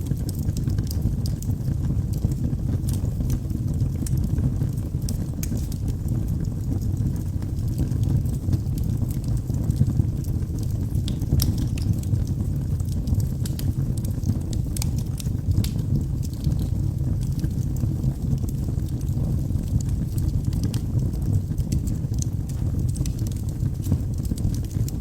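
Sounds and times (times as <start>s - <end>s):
fire rumbling: 0.0s - 25.0s
wood crackling and popping: 0.0s - 25.0s.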